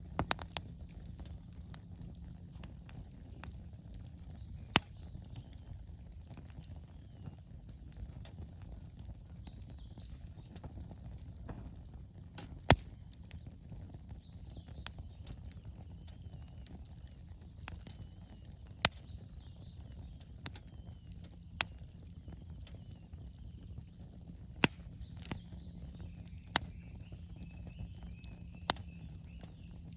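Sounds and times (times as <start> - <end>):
burning wood crackling and popping: 0.0 - 29.9
campfire rumbling: 0.0 - 29.9.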